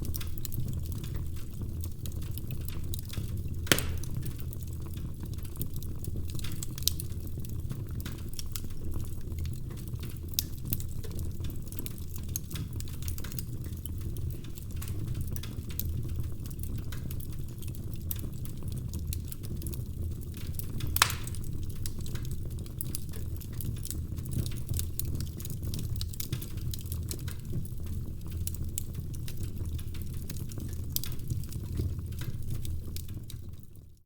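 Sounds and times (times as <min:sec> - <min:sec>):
log fire crackling: 0:00.0 - 0:34.0.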